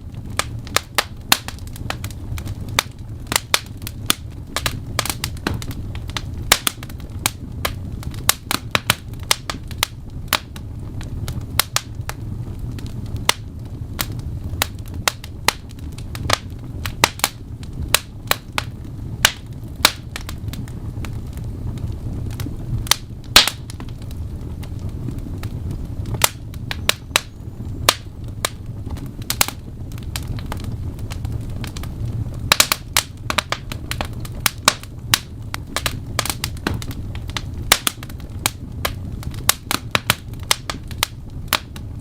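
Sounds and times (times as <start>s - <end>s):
low rumble of flames: 0.0s - 42.0s
wood fire pops and snaps: 0.0s - 42.0s.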